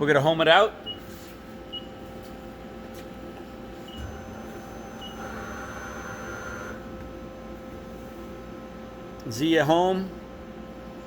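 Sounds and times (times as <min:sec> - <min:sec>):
machine humming: 0:01.6 - 0:11.0.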